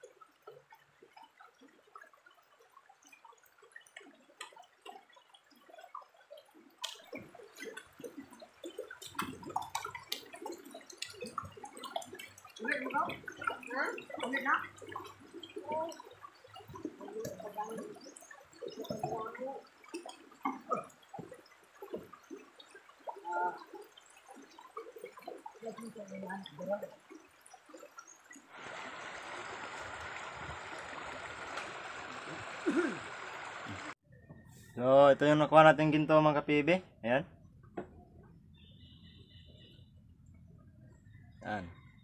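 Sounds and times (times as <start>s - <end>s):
water sloshing in a pan: 0.0s - 34.0s.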